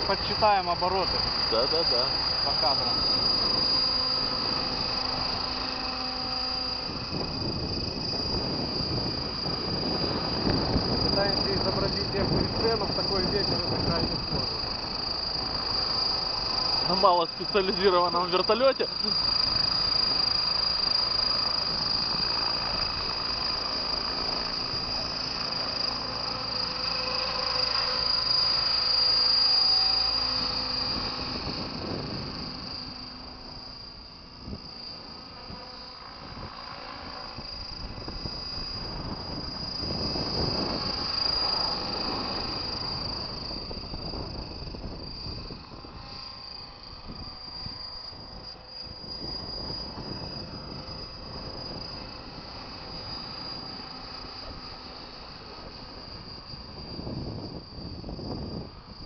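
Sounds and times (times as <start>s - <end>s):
model helicopter rotor whine: 0.0s - 59.0s
wind rumbling on microphone: 0.0s - 59.0s.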